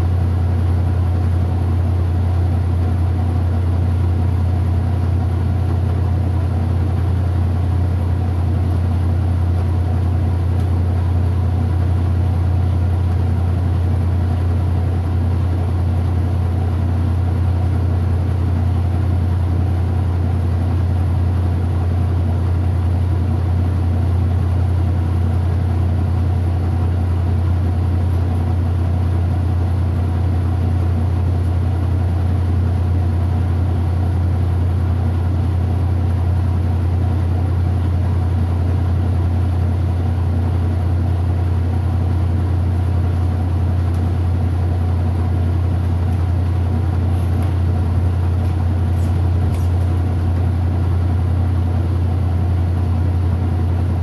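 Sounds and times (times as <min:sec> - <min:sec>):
low motor hum: 0:00.0 - 0:54.0
washing machine spinning: 0:00.0 - 0:54.0.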